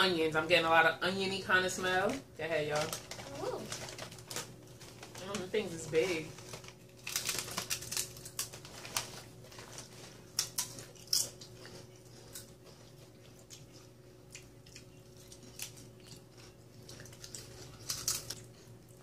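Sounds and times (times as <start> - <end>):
people crunching potato chips: 2.8 - 19.0.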